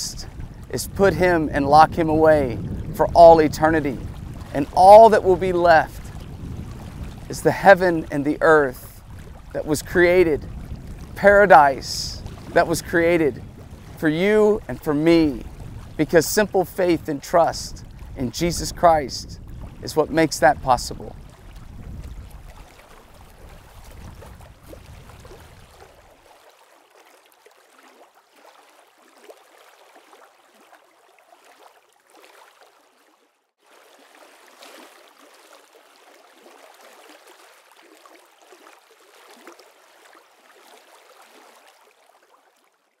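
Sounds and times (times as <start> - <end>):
water lapping and rippling: 0.0 - 43.0.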